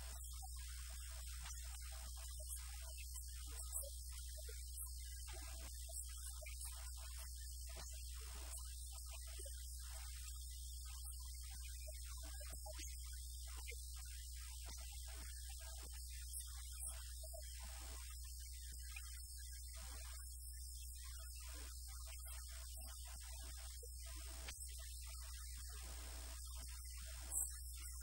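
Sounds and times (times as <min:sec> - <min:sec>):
faint high-pitched whine: 0:00.0 - 0:28.0.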